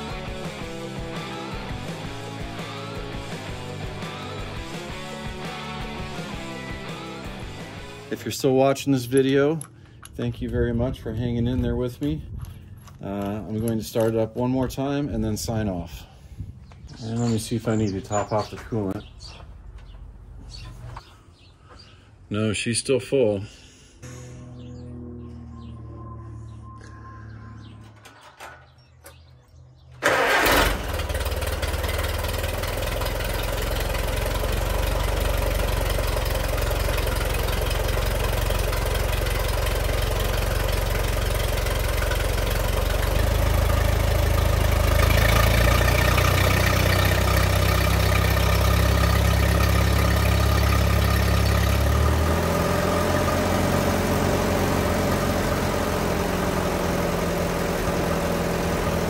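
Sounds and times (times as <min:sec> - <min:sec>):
tractor engine starting and running: 0:00.0 - 0:16.1, 0:16.7 - 0:21.1, 0:23.0 - 0:59.0.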